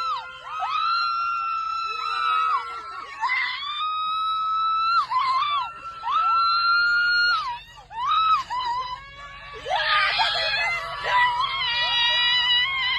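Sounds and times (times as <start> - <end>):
woman screaming with excitement: 0.0 - 12.9.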